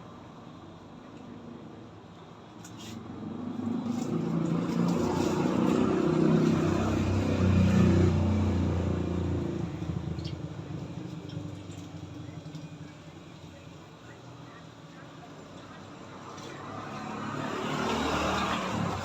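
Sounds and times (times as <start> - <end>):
motor vehicle passing by: 2.8 - 19.0.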